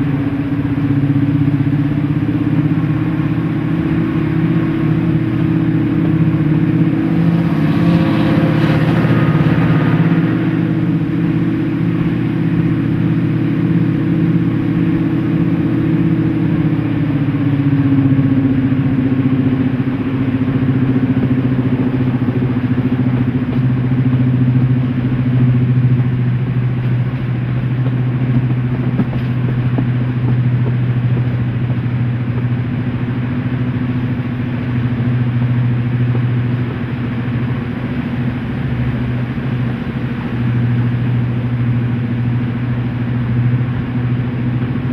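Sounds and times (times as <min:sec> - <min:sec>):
diesel locomotive engine running: 0:00.0 - 0:44.9.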